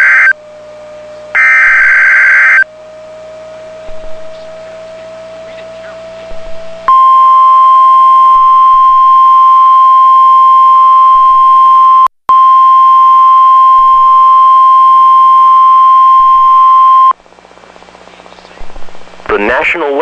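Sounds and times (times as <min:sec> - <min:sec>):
steady alarm tone: 0:00.0 - 0:17.2.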